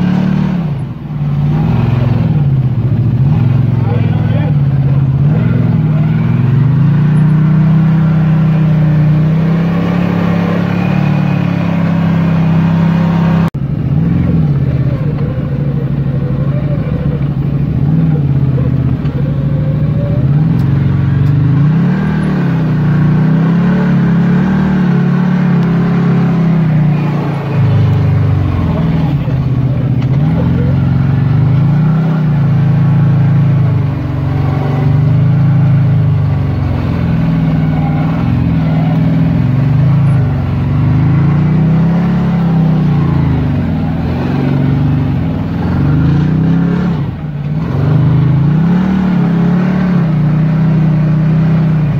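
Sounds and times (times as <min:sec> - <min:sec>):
vehicle engine revving: 0:00.0 - 0:51.9.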